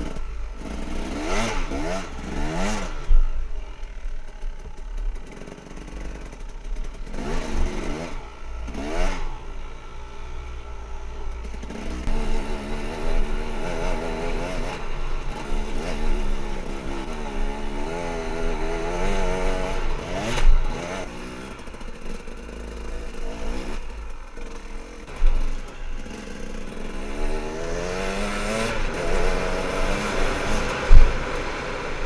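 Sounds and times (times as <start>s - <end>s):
motorbike engine revving: 0.0s - 32.0s.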